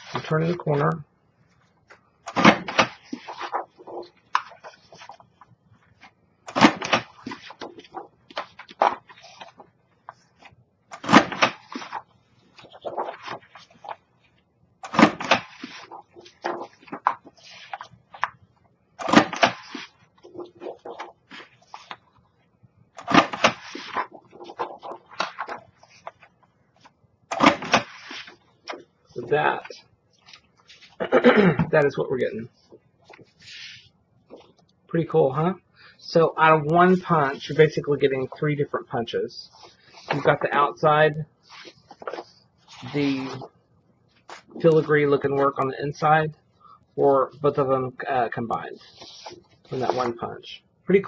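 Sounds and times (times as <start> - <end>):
paper rustling: 0.0 - 31.0, 31.8 - 34.7, 39.4 - 45.7, 48.5 - 50.4.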